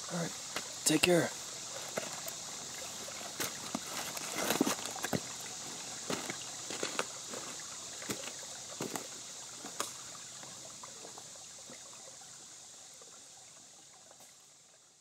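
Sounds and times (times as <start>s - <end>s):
cicadas droning: 0.0s - 15.0s
stream trickling over rocks: 0.0s - 15.0s.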